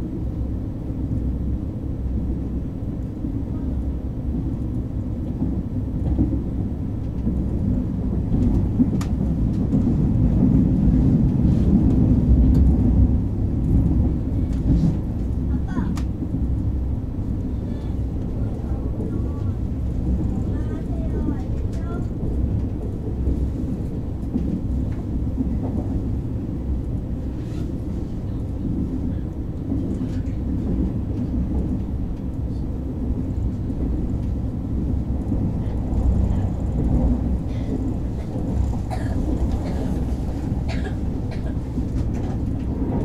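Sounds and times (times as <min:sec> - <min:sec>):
train rumbling: 0:00.0 - 0:43.0.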